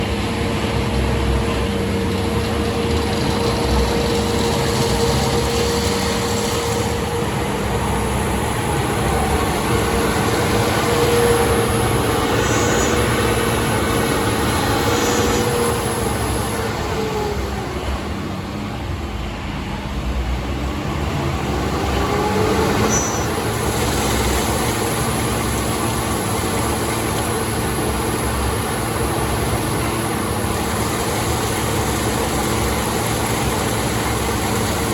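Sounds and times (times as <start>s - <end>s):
heavy machinery engine running: 0.0s - 34.9s.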